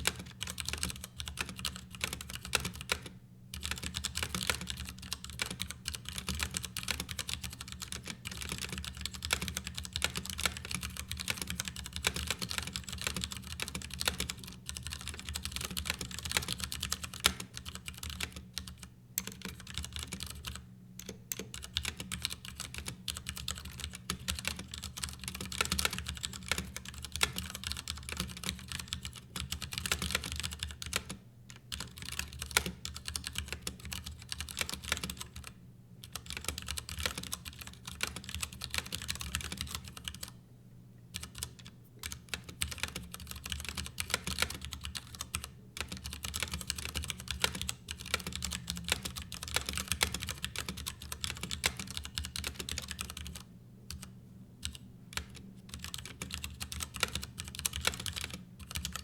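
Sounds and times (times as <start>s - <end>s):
mechanical keyboard typing: 0.0s - 40.3s, 41.2s - 59.0s
faint low hum: 0.0s - 59.0s.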